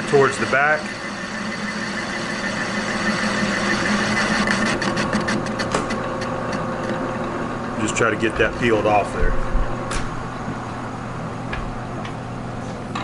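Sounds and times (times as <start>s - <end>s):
metal lathe running: 0.0s - 11.2s.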